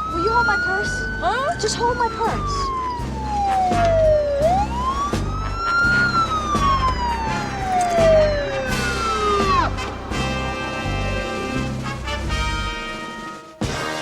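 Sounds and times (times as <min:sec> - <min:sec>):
motorcycle siren wailing: 0:00.0 - 0:13.4
pulsing low music: 0:00.0 - 0:14.0.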